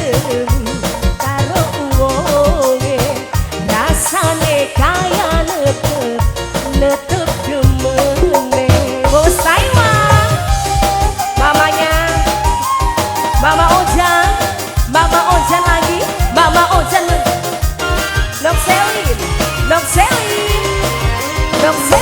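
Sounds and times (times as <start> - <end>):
drums and bass beat: 0.0 - 22.0
ornamented melody line: 0.0 - 22.0.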